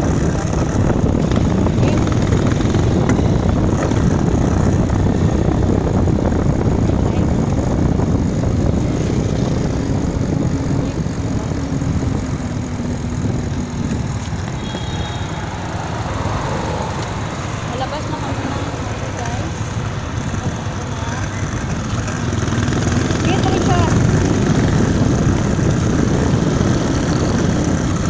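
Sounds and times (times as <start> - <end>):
passing traffic: 0.0 - 28.0
wind rushing over microphone: 0.0 - 28.0.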